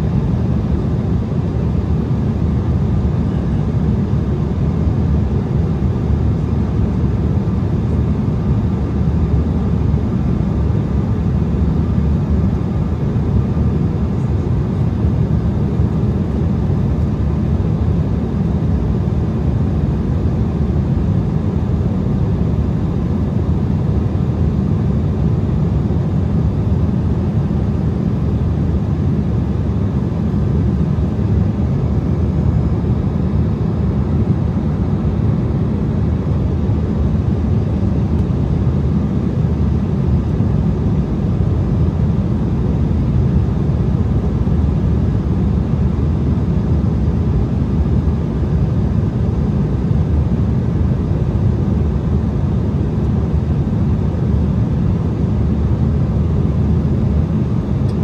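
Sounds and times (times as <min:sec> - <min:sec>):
jet cabin airflow and engine noise: 0:00.0 - 0:58.0.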